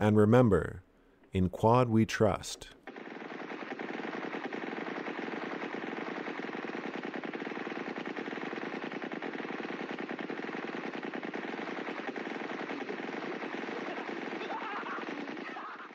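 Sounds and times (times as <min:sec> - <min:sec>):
rapid machine-gun fire: 0:02.8 - 0:15.9.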